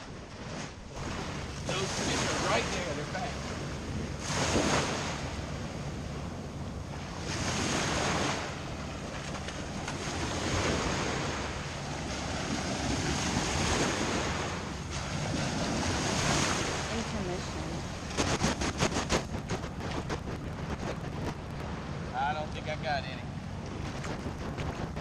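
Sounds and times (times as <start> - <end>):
small waves breaking on sand: 0.0 - 5.8, 6.9 - 25.0
wind rumbling on microphone: 0.0 - 25.0.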